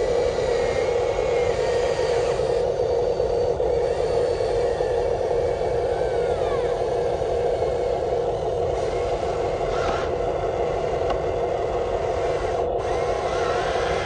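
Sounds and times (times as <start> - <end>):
electric motors whirring: 0.0 - 14.0.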